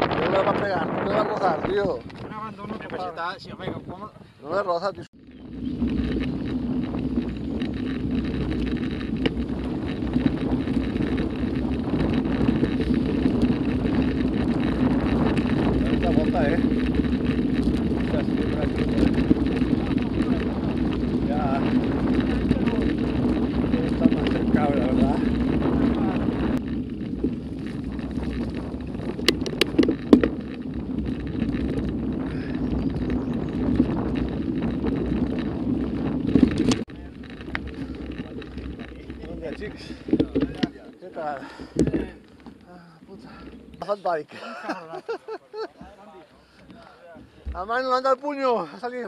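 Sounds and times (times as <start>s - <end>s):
wind buffeting microphone: 0.0s - 48.7s
bike rumbling on gravel: 0.0s - 49.0s.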